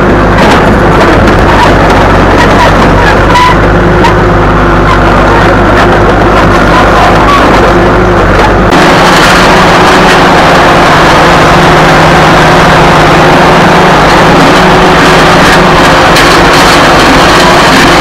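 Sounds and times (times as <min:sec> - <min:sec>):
dozer diesel engine running: 0:00.0 - 0:18.0.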